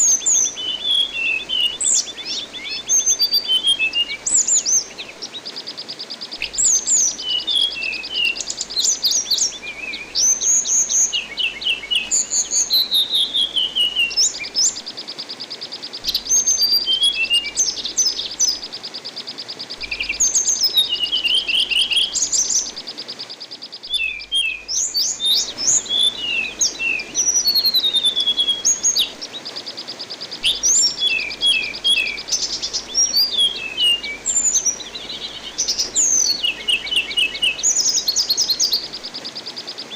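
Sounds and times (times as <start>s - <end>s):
running water: 0.0s - 39.9s
thrush singing chirps and trills: 0.0s - 39.9s.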